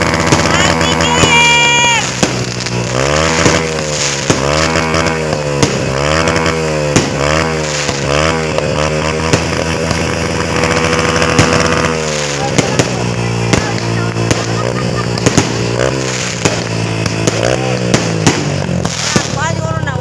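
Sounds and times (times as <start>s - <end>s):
firework bangs: 0.0s - 20.0s
small engine revving: 0.0s - 20.0s.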